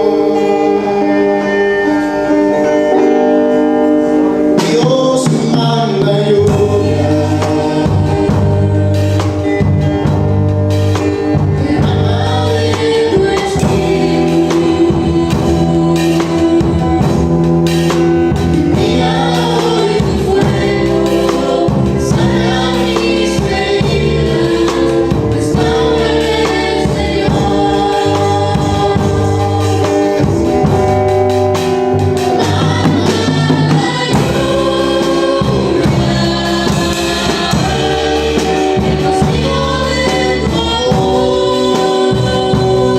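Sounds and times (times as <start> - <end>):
band with bass and percussion: 0.0 - 42.9
vocal group singing in chorus: 0.0 - 42.9.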